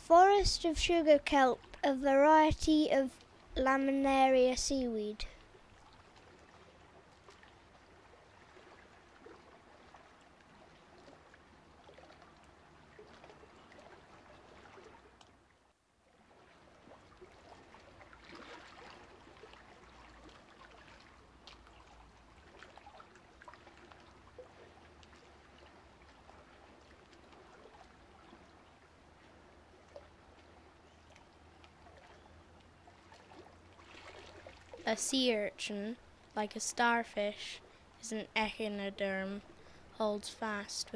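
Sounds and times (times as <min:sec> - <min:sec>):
faint watery rushing: 0:00.0 - 0:40.9.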